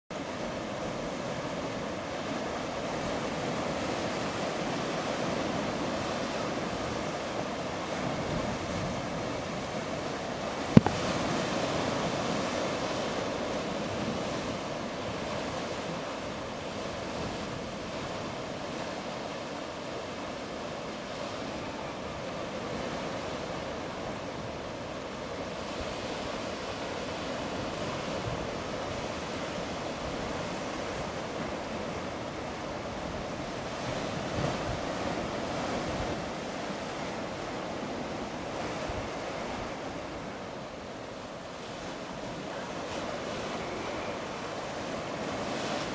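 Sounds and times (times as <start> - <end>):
waves washing against rocks: 0.2 - 45.9.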